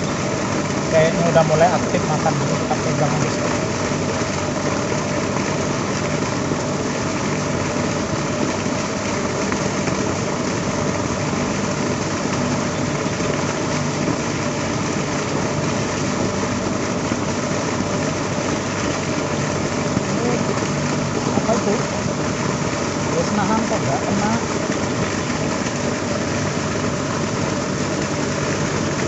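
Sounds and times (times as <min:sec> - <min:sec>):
constant low hum: 0:00.0 - 0:29.0
steady engine-like drone: 0:00.0 - 0:29.0.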